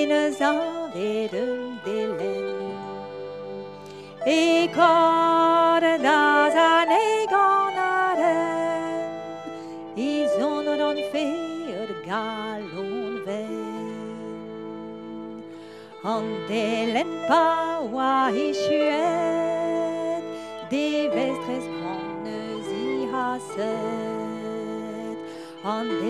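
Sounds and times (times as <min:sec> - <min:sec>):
woman singing with vibrato: 0:00.0 - 0:03.2, 0:04.2 - 0:15.2, 0:16.0 - 0:26.0
harp: 0:00.0 - 0:26.0.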